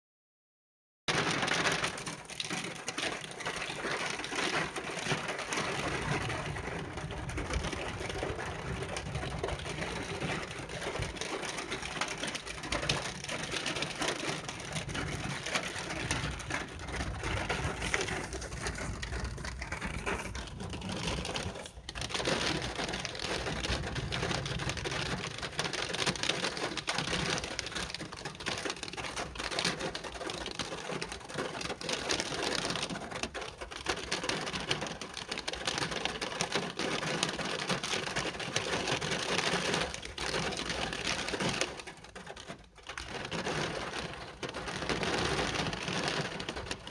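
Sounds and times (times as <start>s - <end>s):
rain pattering: 1.1s - 46.9s.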